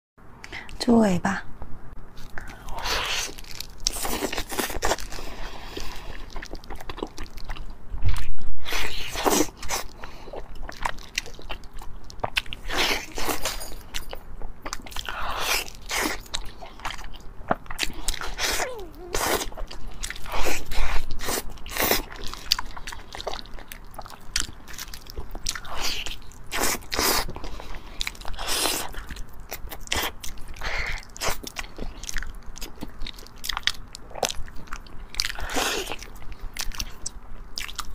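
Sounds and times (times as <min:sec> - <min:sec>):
eating with wet smacks: 0:02.2 - 0:37.9.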